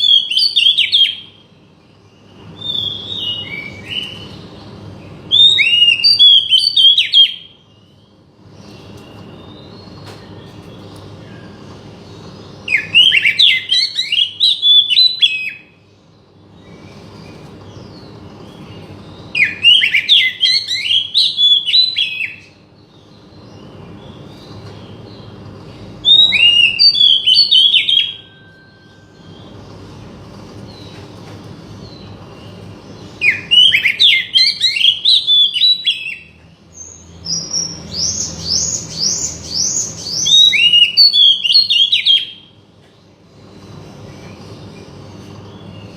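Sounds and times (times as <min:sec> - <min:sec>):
bird whistling song: 0:00.0 - 0:15.8, 0:16.5 - 0:29.9, 0:30.6 - 0:42.6.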